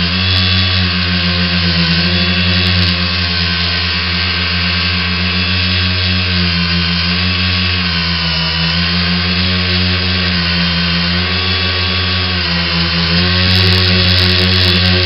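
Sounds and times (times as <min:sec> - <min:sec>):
drone motors and propellers buzzing: 0:00.0 - 0:15.0.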